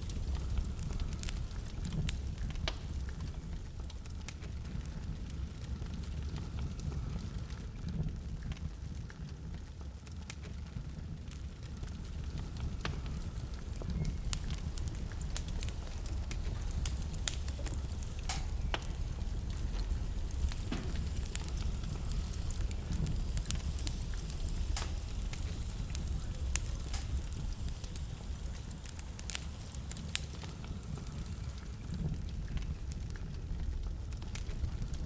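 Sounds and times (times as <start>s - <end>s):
logs crackling and popping: 0.0s - 35.0s
rumble and hiss of flames: 0.0s - 35.0s.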